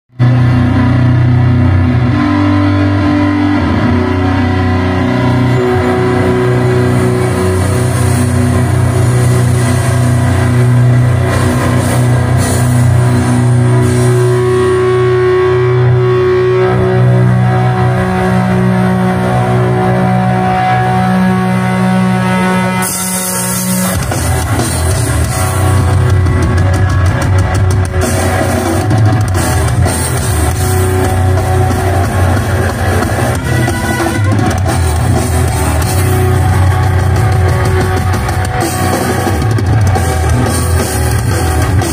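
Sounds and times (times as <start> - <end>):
droning metal music: 0.1 - 41.9
heavy metal band playing live: 0.1 - 41.9.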